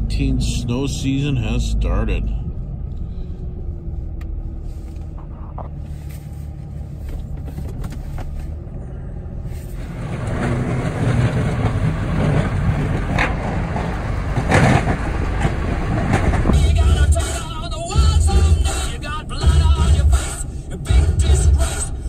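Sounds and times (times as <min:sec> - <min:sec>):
truck engine and fan rumble: 0:00.0 - 0:22.0.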